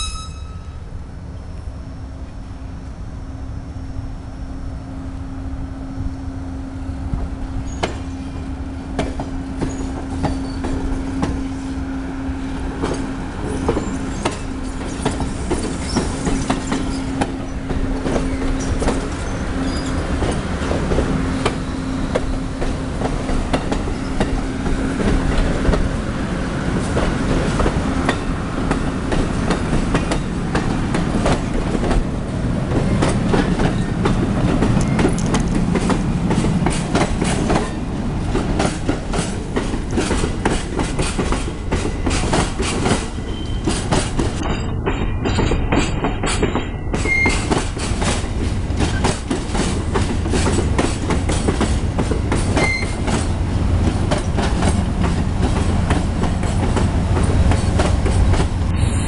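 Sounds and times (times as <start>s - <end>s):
train wheels clicking over rail joints: 7.1s - 11.8s, 12.5s - 58.8s.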